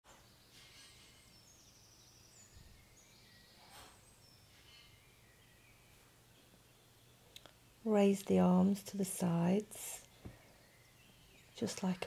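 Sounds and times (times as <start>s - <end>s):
faint birdsong: 0.1s - 12.0s.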